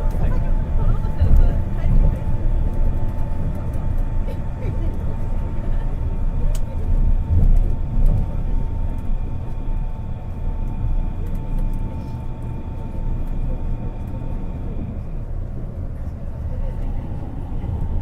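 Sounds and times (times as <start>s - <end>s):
constant train whine: 0.0s - 18.0s.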